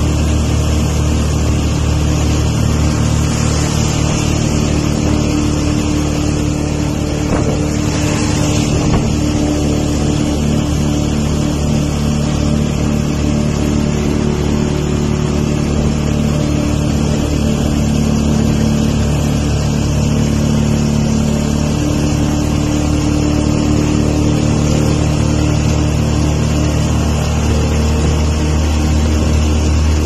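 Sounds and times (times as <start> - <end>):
road and air noise: 0.0 - 30.0
vehicle engine running: 0.0 - 30.0.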